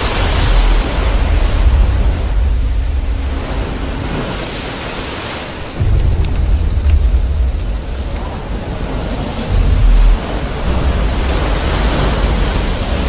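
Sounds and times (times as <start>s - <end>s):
deep rumble: 0.0s - 13.0s
rushing wind-like noise: 0.0s - 13.0s.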